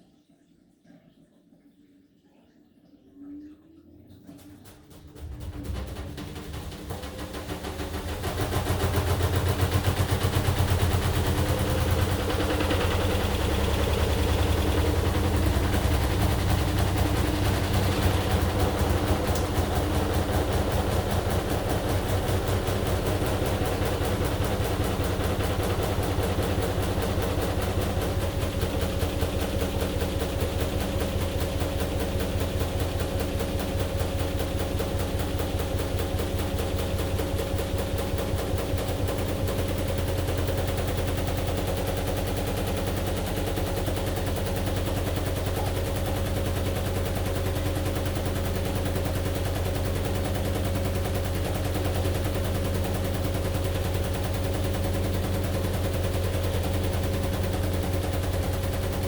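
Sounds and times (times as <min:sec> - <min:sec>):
washing machine drum thumping: 0:04.6 - 0:59.0.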